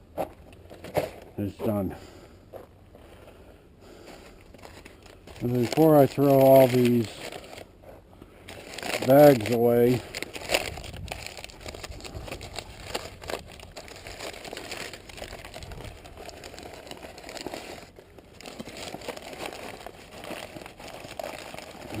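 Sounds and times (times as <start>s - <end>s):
bags crinkling and crackling: 3.0s - 22.0s.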